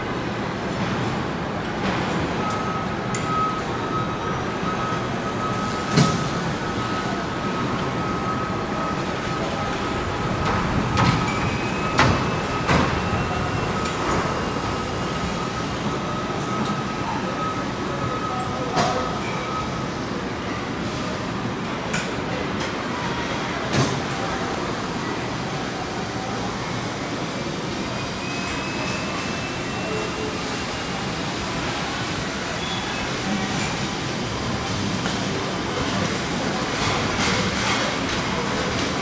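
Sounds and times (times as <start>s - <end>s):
machinery hum: 0.0s - 39.0s.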